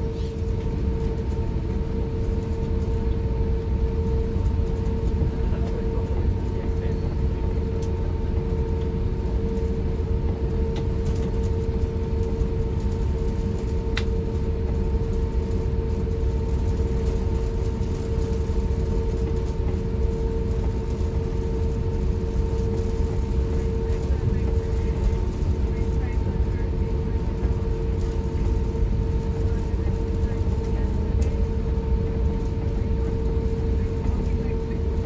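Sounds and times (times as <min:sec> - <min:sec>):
airliner cabin rumble and whine: 0:00.0 - 0:35.0.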